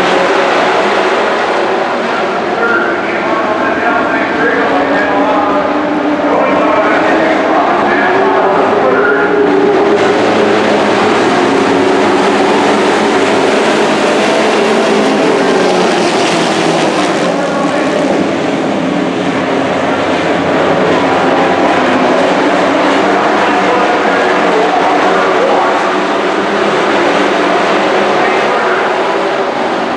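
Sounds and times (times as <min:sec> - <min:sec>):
race truck engines running: 0:00.0 - 0:29.9.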